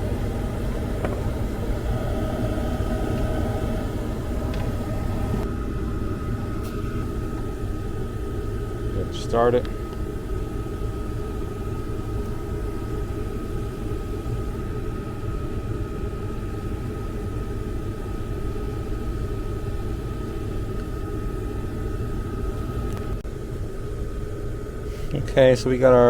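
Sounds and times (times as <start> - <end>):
high-pitched whine: 0.0 - 23.2
furnace blower rumble: 0.0 - 26.0.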